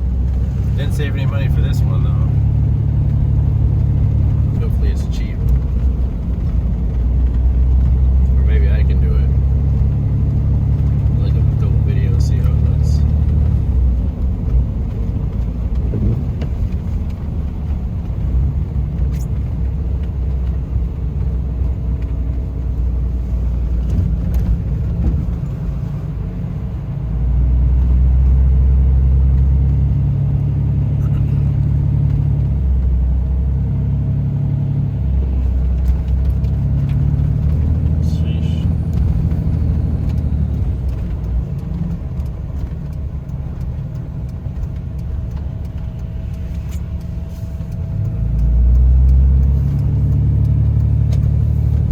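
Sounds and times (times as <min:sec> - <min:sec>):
diesel pickup engine running: 0:00.0 - 0:51.9.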